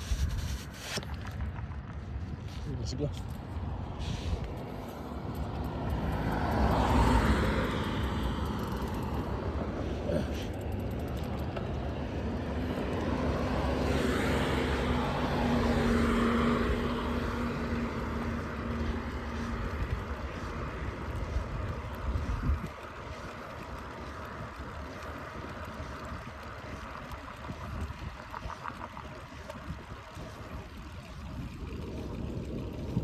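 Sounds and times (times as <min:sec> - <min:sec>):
traffic engines rumbling: 0:00.0 - 0:33.0.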